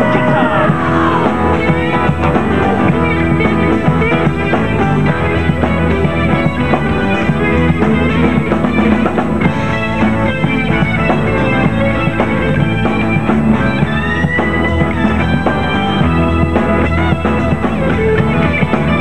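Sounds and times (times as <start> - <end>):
drum kit: 0.0 - 19.0
electric bass: 0.0 - 19.0.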